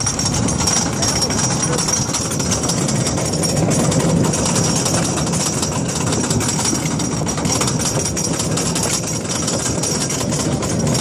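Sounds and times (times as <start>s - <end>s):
roller coaster lift chain clattering: 0.0s - 11.0s.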